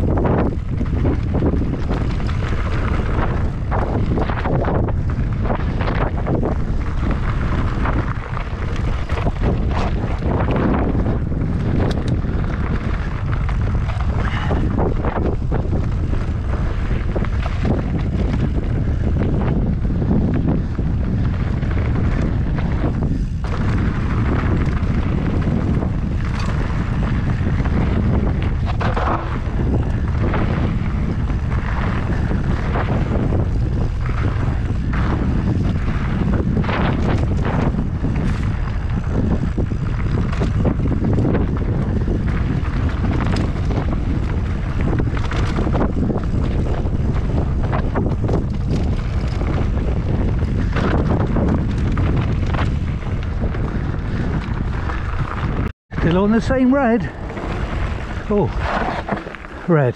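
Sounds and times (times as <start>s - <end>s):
bike knocks and rattles: 0.0s - 56.1s, 57.0s - 59.7s
tyres rumbling on dirt trail: 0.0s - 59.9s
wind buffeting microphone: 0.0s - 59.9s.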